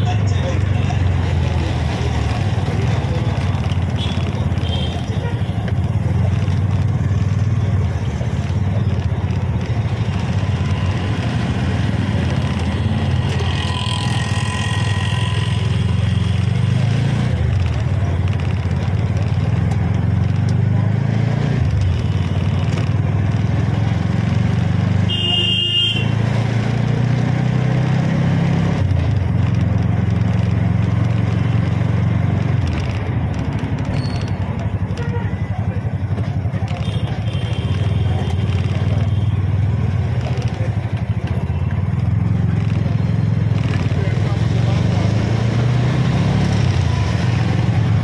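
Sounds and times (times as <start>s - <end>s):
auto rickshaw engine running: 0.0s - 48.0s.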